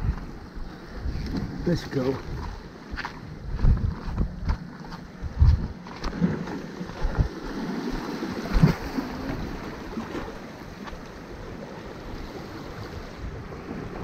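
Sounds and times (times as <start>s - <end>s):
water lapping against rocks: 0.0s - 14.0s
wind on microphone: 0.0s - 14.0s.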